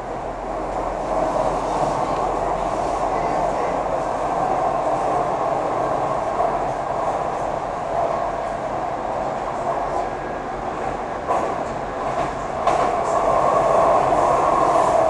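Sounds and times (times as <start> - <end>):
rail car wheels rumbling: 0.0 - 15.0.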